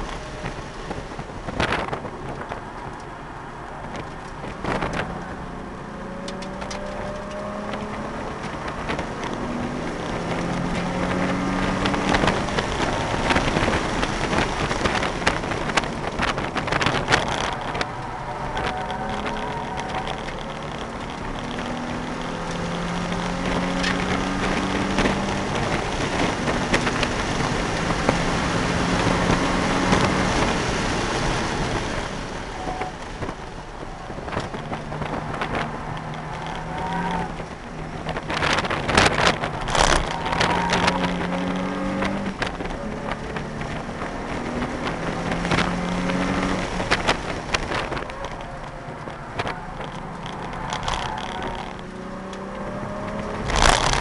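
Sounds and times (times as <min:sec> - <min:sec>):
car engine revving: 0:00.0 - 0:54.0
tyre and wind noise: 0:00.0 - 0:54.0.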